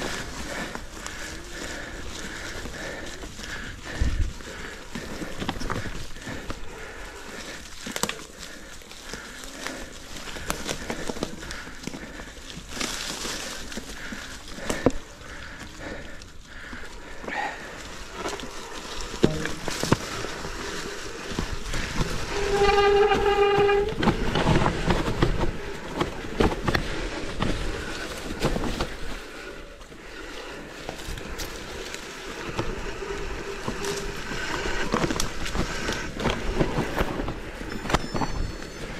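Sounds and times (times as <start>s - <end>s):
bike rattles and knocks: 0.0s - 38.9s
wind and tyre noise: 0.0s - 38.9s.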